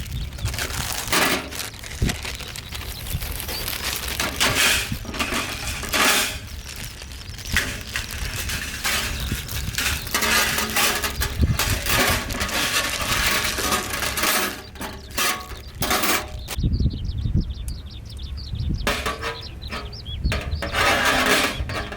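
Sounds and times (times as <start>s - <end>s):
metal plates clinking and rattling: 0.4s - 2.7s, 3.4s - 16.6s, 18.8s - 21.9s.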